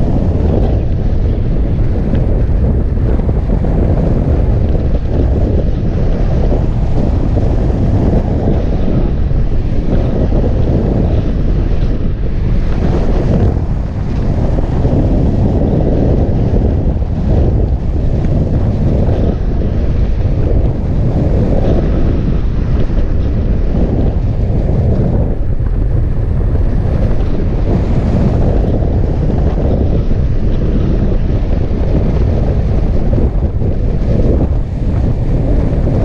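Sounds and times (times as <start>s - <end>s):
wind rumbling over microphone: 0.0s - 36.0s.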